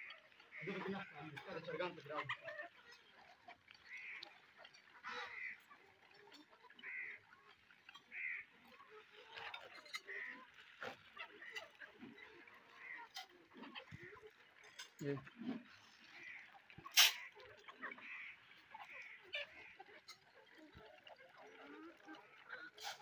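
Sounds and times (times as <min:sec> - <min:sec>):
chickens calling: 0:00.0 - 0:23.0.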